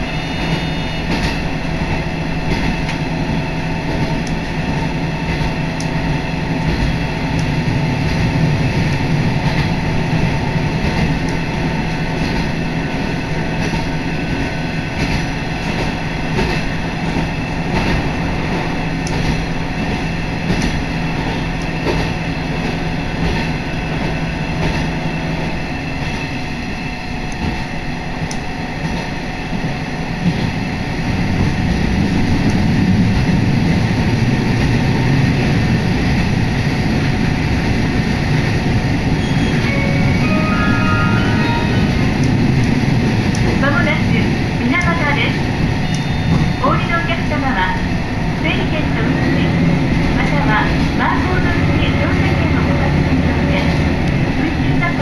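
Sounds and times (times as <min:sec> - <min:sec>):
railcar running rumble: 0:00.0 - 0:55.0.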